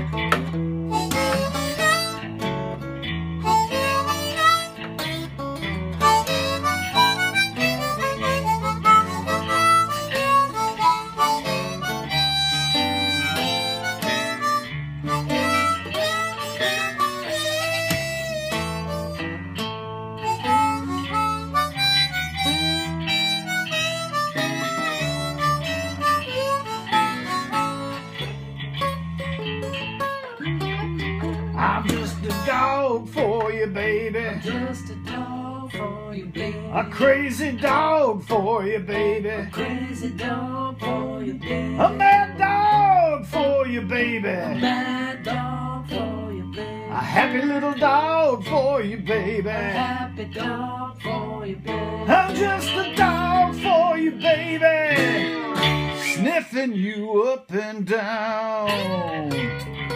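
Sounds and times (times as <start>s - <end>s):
harmonica melody: 0.0s - 35.5s, 36.4s - 56.4s, 58.7s - 59.9s
acoustic guitar picking: 0.0s - 57.2s, 57.9s - 59.9s.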